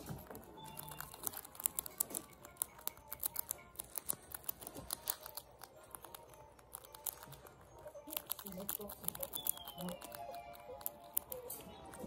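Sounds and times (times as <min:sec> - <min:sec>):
rats crunching dry flakes: 0:00.0 - 0:12.0.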